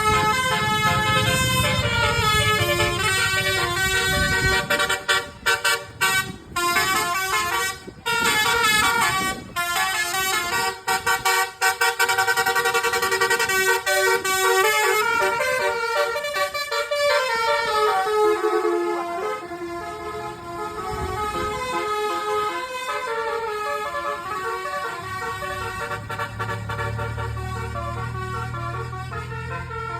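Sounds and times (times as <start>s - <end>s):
multi-tone bus horn tunes: 0.0s - 29.9s.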